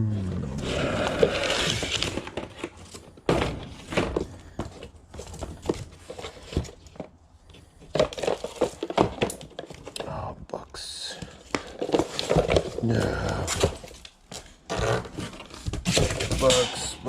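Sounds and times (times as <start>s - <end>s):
objects knocking and thudding: 0.6s - 10.0s, 11.4s - 17.0s.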